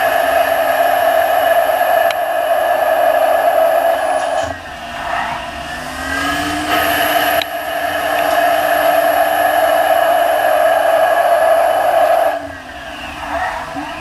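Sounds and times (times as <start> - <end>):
lathe mechanical whine: 0.0 - 14.0
lower tone rising in pitch: 0.0 - 14.0.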